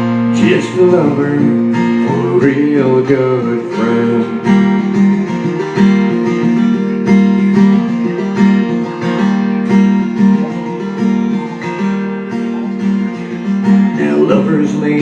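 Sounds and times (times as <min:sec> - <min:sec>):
acoustic guitar strumming: 0:00.0 - 0:15.0
person singing: 0:00.4 - 0:15.0.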